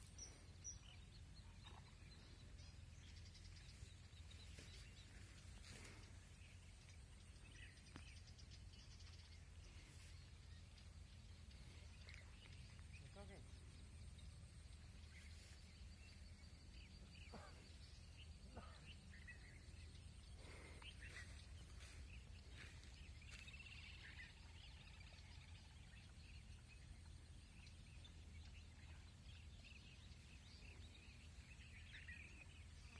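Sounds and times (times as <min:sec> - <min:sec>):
faint bird chirps: 0:00.0 - 0:32.9.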